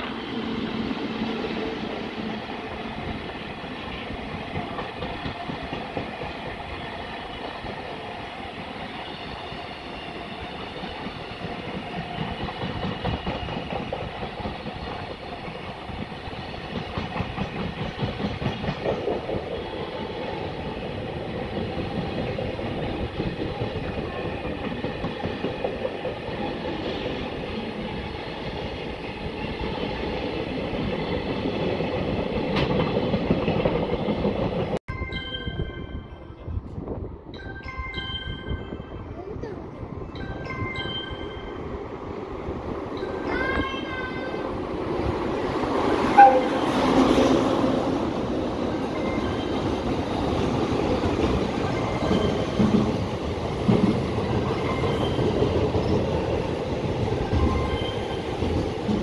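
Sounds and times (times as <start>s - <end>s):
freight train wheels rumbling: 0.0s - 34.8s, 38.0s - 59.0s
steady train whine: 0.0s - 59.0s.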